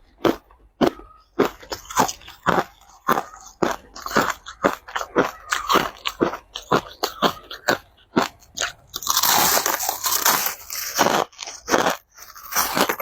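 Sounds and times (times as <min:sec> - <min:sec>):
chewing crushed ice: 0:00.0 - 0:13.0.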